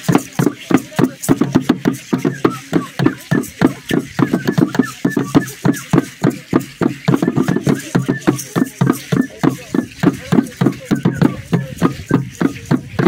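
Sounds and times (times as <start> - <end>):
drums in quick even beat: 0.0 - 13.0
rattles shaking: 0.0 - 13.0.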